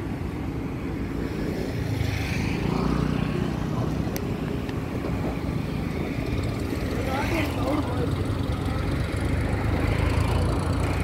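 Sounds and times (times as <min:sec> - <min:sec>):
motor vehicles rumbling: 0:00.0 - 0:11.0.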